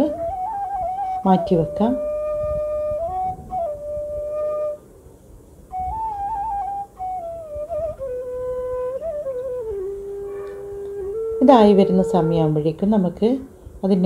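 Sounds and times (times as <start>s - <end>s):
solo flute melody: 0.0s - 5.0s, 5.6s - 13.1s.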